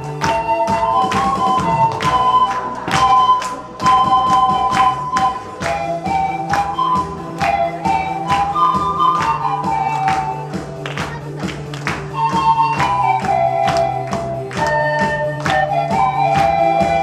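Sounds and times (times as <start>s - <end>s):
pan flutes playing a melody: 0.0s - 17.0s
steady percussion beat: 0.0s - 17.0s.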